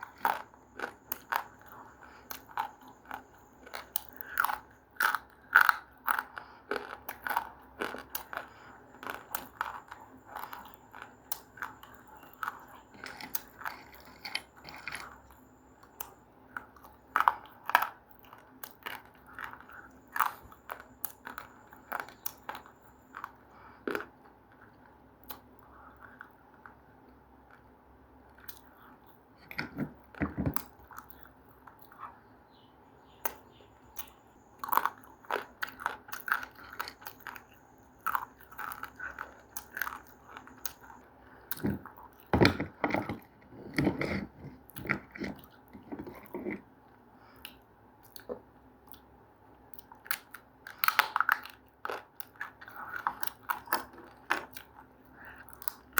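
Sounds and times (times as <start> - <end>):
crunching of crisp food: 0.0 - 55.9.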